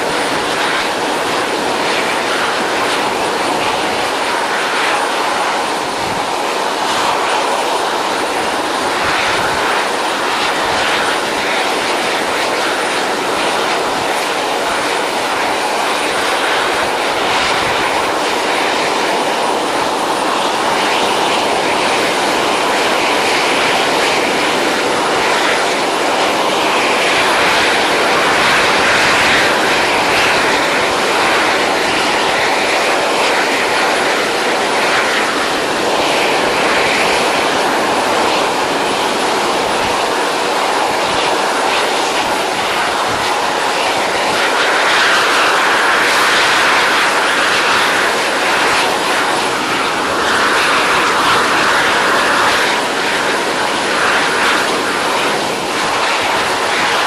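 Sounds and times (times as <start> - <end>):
jet turbine engine running: 0.0 - 57.0.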